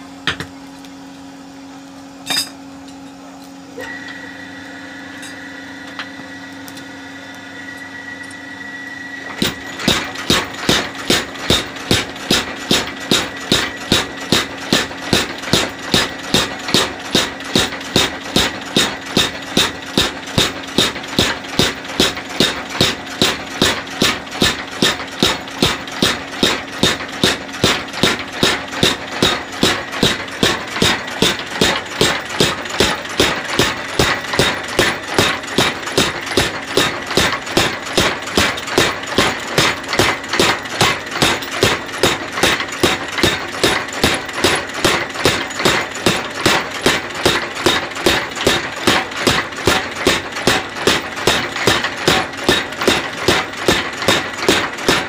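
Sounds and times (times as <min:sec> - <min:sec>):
machine hum: 0:00.0 - 0:55.0
power hammer striking metal: 0:02.2 - 0:02.6, 0:05.1 - 0:06.2, 0:07.7 - 0:55.0.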